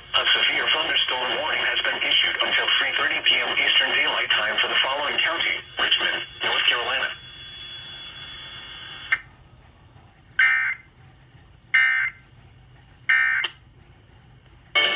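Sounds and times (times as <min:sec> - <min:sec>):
faint broadcast hum: 0:00.0 - 0:14.9.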